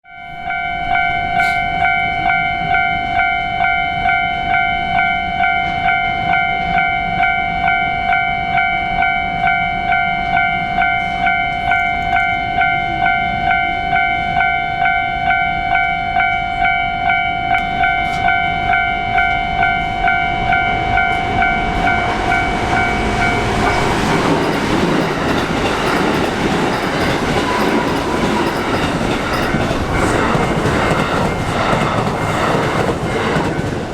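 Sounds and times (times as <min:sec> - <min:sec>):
railroad crossing bell ringing: 0:00.0 - 0:33.7
passing train rumble and clatter: 0:00.5 - 0:33.9.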